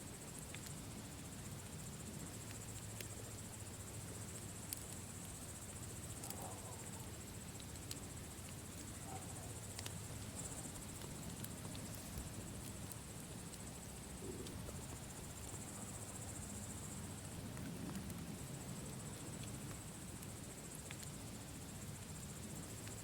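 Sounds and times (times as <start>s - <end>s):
campfire crackling: 0.0s - 23.0s
crickets chirping: 0.0s - 23.0s.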